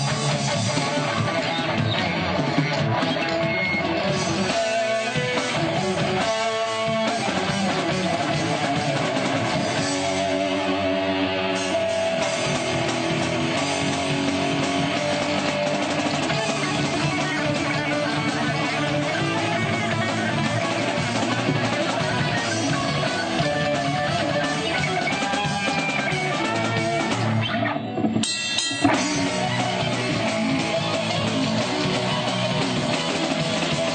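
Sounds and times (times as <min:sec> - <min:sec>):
live band playing: 0:00.0 - 0:33.9.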